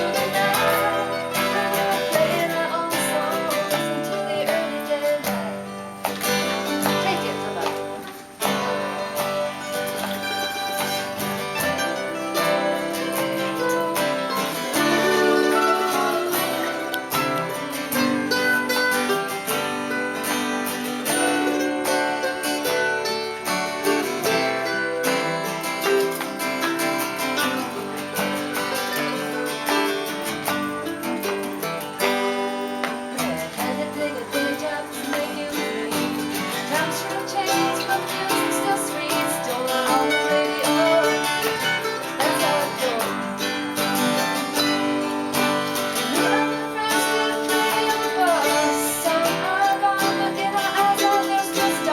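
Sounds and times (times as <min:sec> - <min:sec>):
acoustic guitar playing: 0:00.0 - 0:51.9
person singing: 0:00.0 - 0:51.9.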